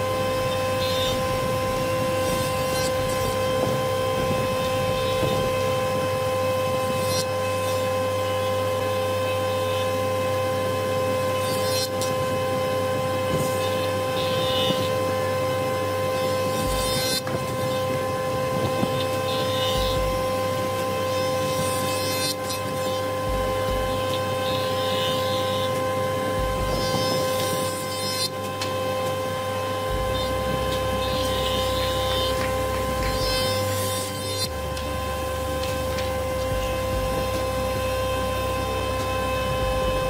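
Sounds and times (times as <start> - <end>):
board cutting noise: 0.0 - 40.0
jointer motor whining: 0.0 - 40.0.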